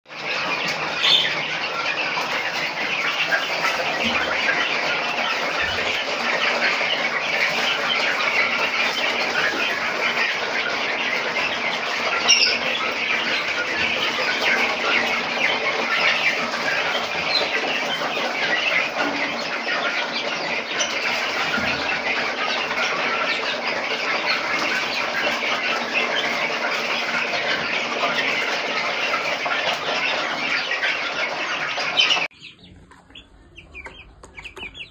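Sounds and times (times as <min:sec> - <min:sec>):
chicken squawk: 0:00.1 - 0:34.9
chicks cheeping: 0:00.1 - 0:34.9.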